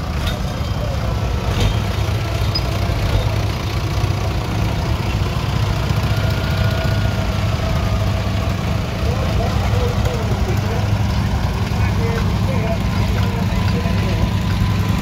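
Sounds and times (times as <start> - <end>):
tractor engines running: 0.0 - 15.0.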